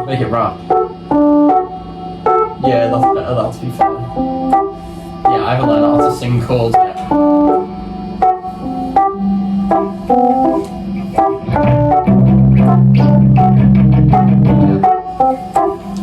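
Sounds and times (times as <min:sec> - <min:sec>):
organ-like keyboard chords: 0:00.0 - 0:16.0.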